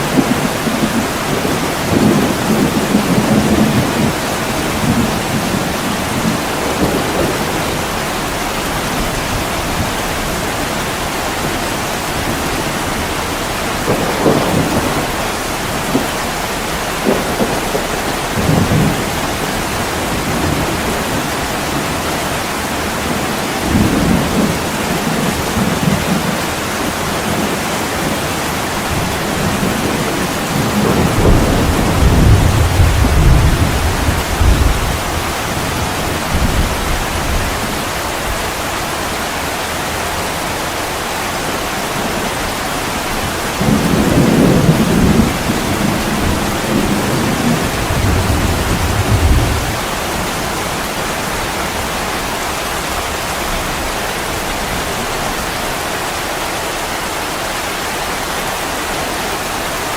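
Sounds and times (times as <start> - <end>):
thunder rumbling: 0.0 - 55.8
heavy rain: 0.0 - 59.9.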